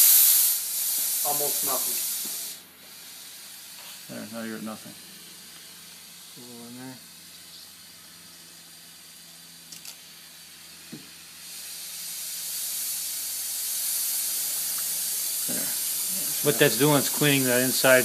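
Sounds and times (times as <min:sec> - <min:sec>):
compressed air hissing through spray gun: 0:00.0 - 0:18.0.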